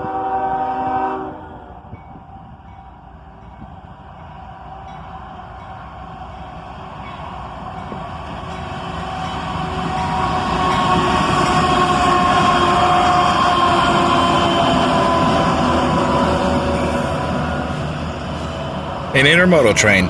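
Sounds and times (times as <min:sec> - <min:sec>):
freight train rumbling: 0:00.0 - 0:20.0
locomotive whining tones: 0:00.0 - 0:20.0.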